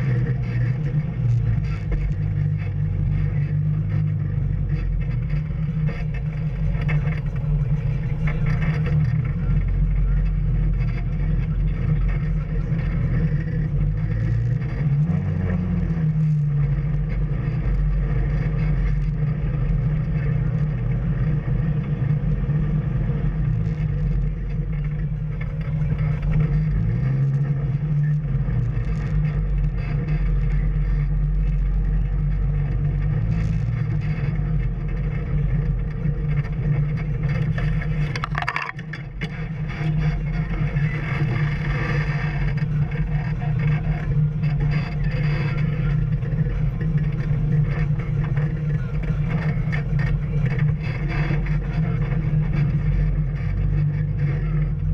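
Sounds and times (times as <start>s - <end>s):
off-road vehicle engine: 0.0s - 54.9s.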